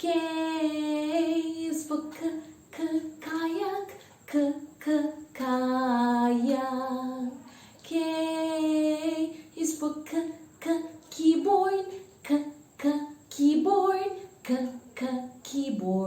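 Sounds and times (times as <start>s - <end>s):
woman singing children's song: 0.0s - 16.0s.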